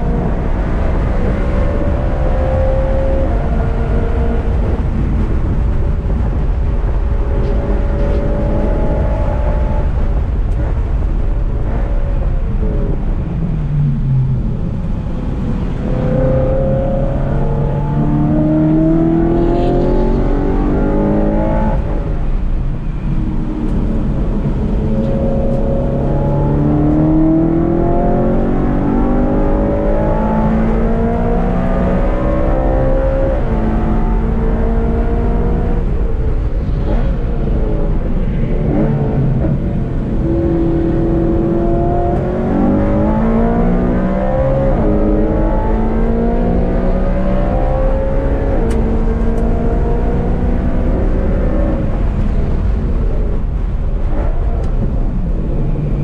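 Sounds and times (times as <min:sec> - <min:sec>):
car engine revving through gears: 0:00.0 - 0:05.3, 0:15.4 - 0:22.1, 0:23.1 - 0:56.0.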